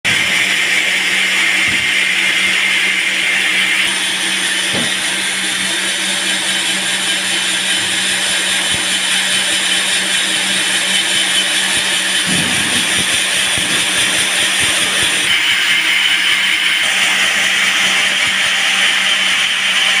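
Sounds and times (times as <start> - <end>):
band saw cutting a log: 0.0 - 20.0.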